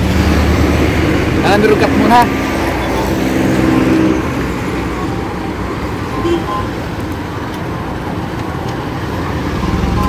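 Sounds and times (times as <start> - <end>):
road traffic rumble: 0.0 - 10.0
wind: 0.0 - 10.0.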